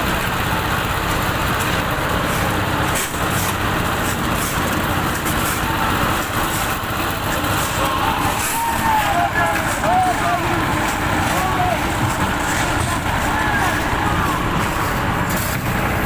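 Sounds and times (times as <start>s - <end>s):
machine engine humming: 0.0s - 16.0s.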